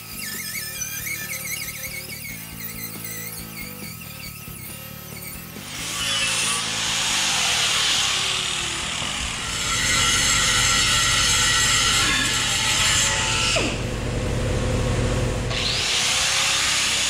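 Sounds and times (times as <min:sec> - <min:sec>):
angle grinder rasping on metal: 0:00.0 - 0:13.8, 0:15.5 - 0:17.0
air grinder whining: 0:00.0 - 0:17.0.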